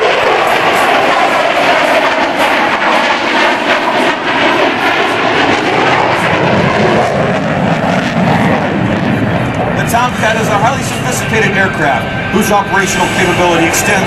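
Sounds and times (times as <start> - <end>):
jet engines roaring in fly-by: 0.0 - 14.0.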